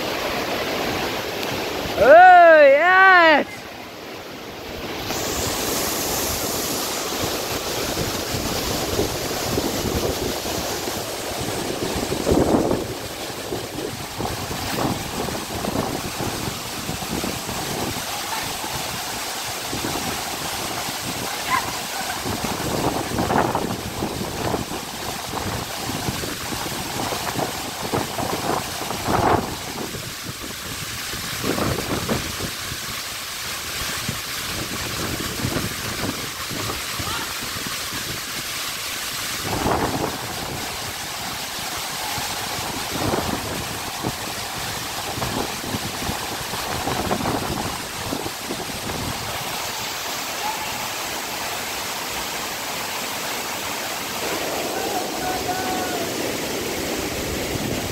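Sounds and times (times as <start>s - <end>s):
waterfall and stream rushing: 0.0s - 57.9s
wind gusts on microphone: 4.5s - 33.0s, 33.8s - 38.5s, 39.2s - 50.9s, 53.9s - 57.9s.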